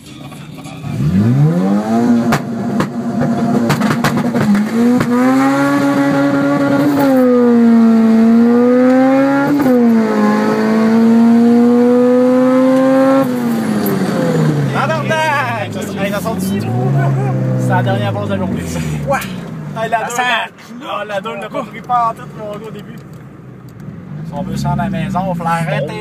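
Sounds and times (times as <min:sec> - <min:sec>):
car engine revving: 0:00.0 - 0:20.4, 0:21.2 - 0:26.0.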